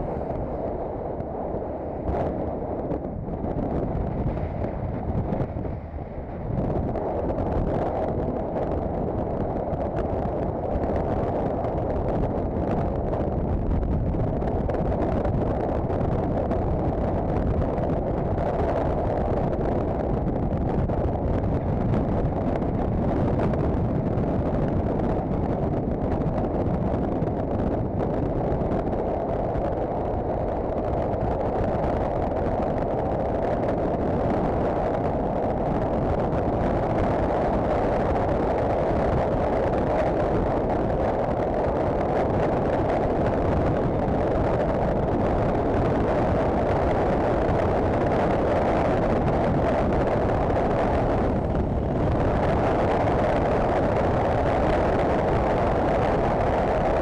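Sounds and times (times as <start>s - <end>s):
motorcycle wind and road noise: 0.0s - 57.0s.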